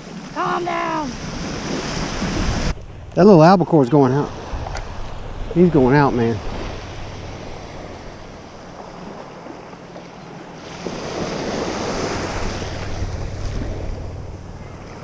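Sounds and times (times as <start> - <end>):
small surf washing up beach: 0.0 - 15.0
wind buffeting microphone: 0.0 - 15.0.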